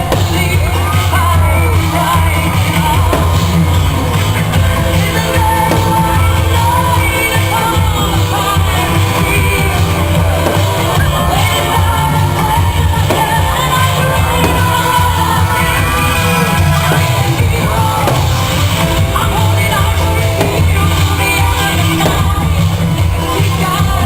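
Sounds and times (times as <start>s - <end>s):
heavy bass: 0.0s - 24.0s
loud music with singing: 0.0s - 24.0s.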